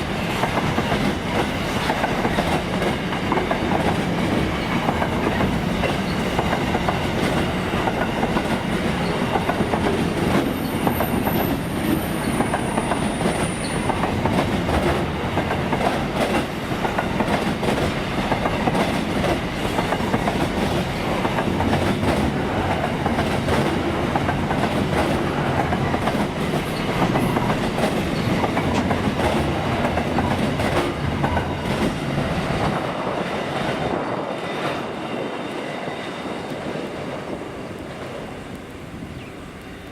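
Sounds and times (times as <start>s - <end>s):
train wheels clicking over rail joints: 0.0s - 35.6s.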